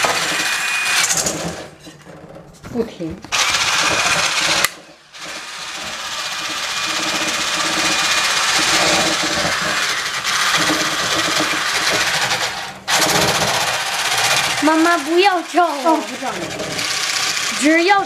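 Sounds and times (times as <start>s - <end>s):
hand blender whisking in metal bowl: 0.0s - 1.8s, 3.3s - 18.0s.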